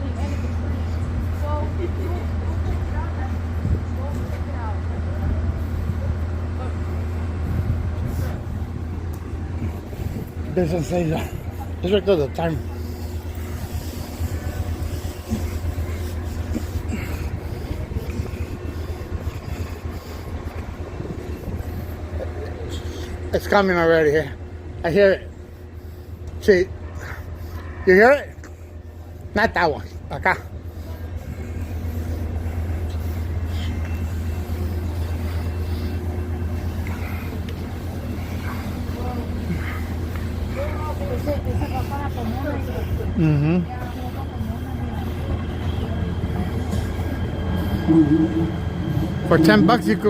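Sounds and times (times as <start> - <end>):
distant vehicle engines rumbling: 0.0 - 50.0.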